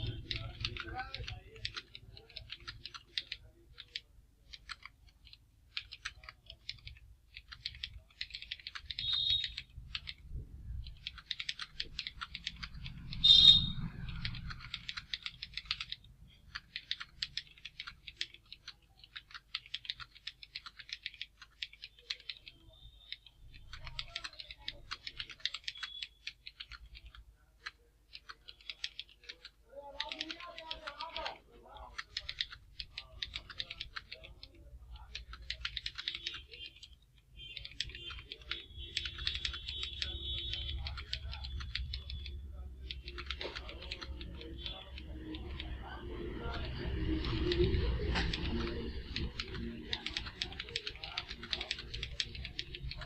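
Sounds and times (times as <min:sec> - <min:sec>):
fast keyboard typing: 0:00.0 - 0:53.0.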